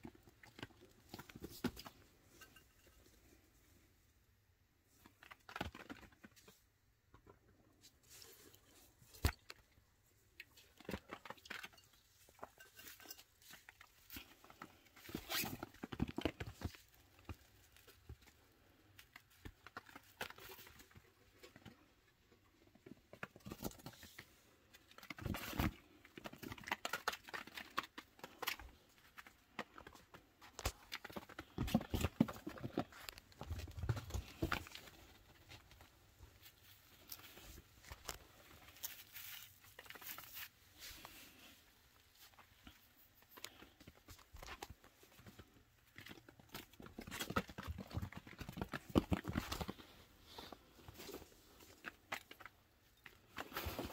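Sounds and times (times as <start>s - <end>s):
small animal patters and scratches: 0.0s - 4.0s, 4.8s - 53.9s.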